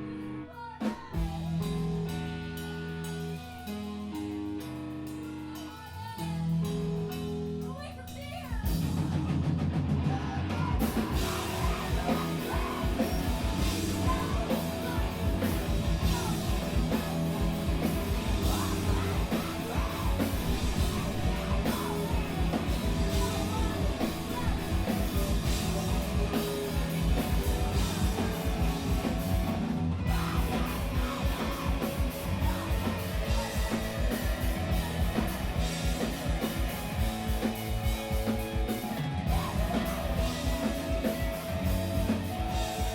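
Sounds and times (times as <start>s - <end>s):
bass guitar: 0.0s - 42.9s
distorted guitars: 0.0s - 42.9s
fast drum kit: 0.8s - 42.9s.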